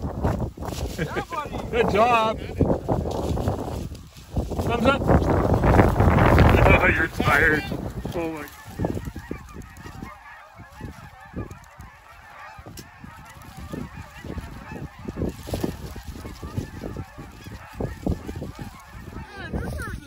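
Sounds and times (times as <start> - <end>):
geese honking: 0.0 - 20.0
wind buffeting microphone: 0.0 - 20.0.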